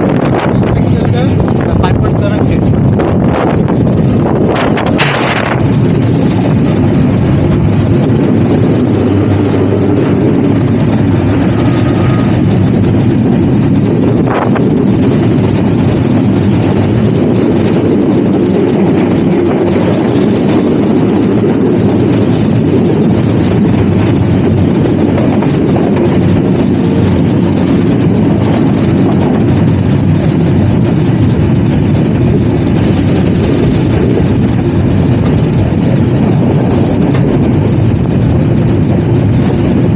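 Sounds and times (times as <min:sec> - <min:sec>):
train wheels rumbling on track: 0:00.0 - 0:39.9
wind at open carriage door: 0:00.0 - 0:39.9.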